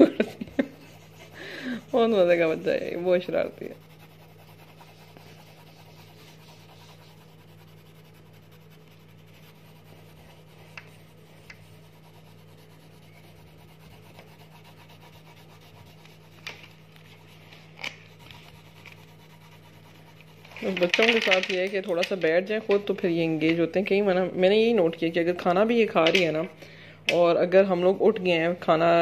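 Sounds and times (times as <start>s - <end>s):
pencils rubbing on paper: 0.0s - 26.6s.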